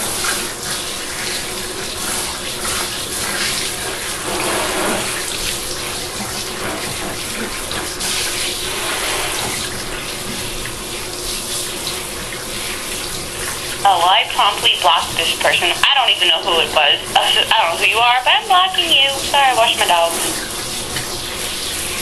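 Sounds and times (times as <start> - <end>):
water running into bathtub: 0.0 - 15.4, 16.0 - 22.0.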